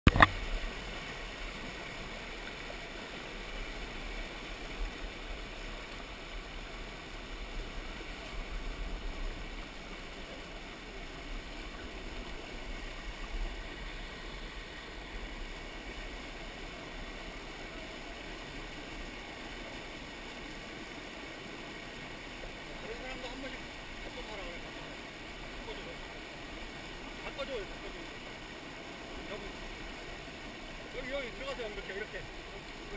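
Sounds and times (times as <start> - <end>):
stream rushing over boulders: 0.0 - 32.9.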